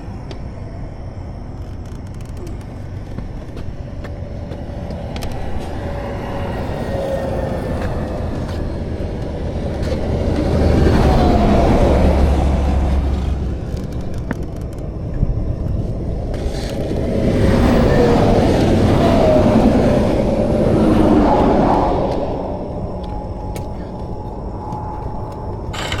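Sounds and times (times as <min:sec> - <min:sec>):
highway traffic rushing past: 0:03.6 - 0:13.9, 0:14.8 - 0:25.9.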